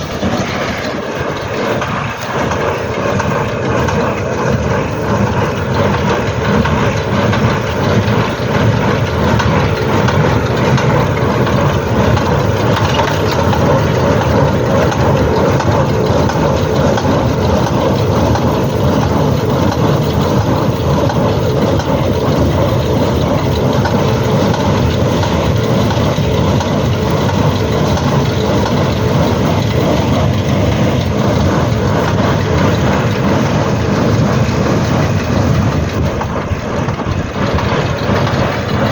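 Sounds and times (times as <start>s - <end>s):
baler mechanical running noise: 0.0s - 38.9s
tractor engine drone: 0.0s - 38.9s.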